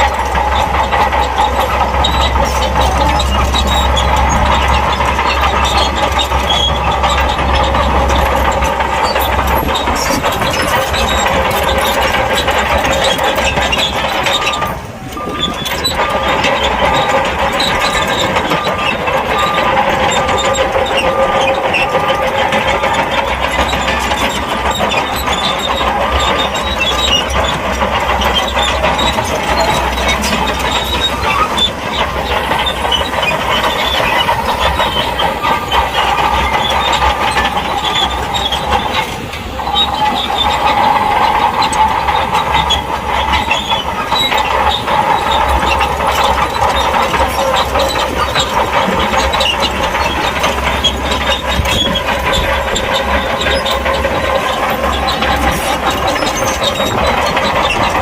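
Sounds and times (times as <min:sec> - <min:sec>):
diesel engine under load: 0:00.0 - 0:58.0
steel tracks clattering and squeaking: 0:00.0 - 0:58.0.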